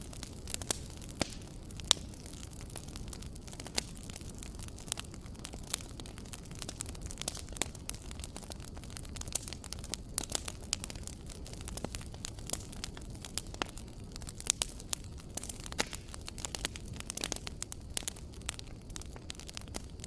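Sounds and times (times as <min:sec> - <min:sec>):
low rumble of burning: 0:00.0 - 0:20.0
wood fire crackling: 0:00.0 - 0:20.0.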